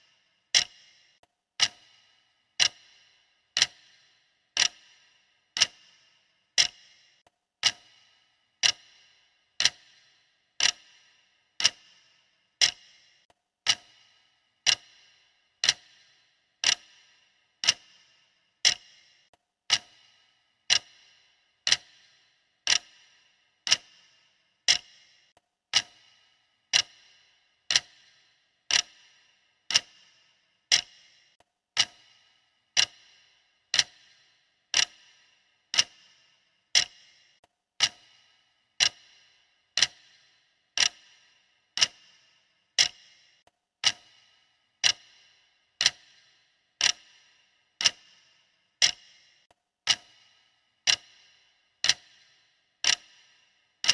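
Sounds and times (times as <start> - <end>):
clock ticking: 0.0 - 53.9.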